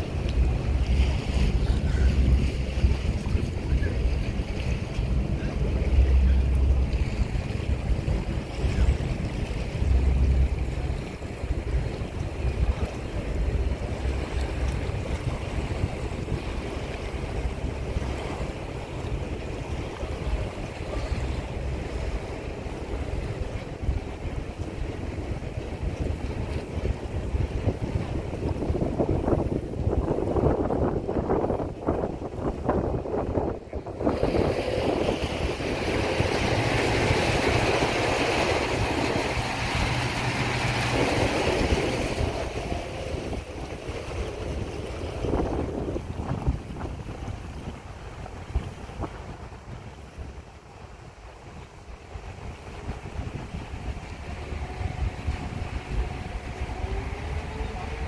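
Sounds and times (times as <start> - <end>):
low engine hum: 0.0 - 58.0
outdoor harbour noise: 0.0 - 58.0
wind buffeting microphone: 0.0 - 58.0.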